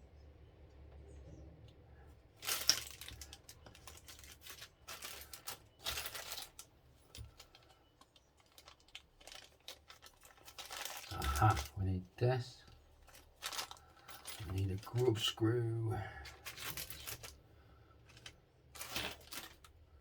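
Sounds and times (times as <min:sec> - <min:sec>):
plastic packaging rustling and crinkling: 0:02.3 - 0:17.4, 0:18.0 - 0:19.8.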